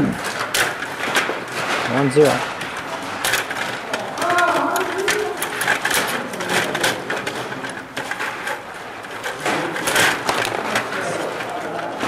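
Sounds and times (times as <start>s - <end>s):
table hockey plastic clattering: 0.0s - 12.0s.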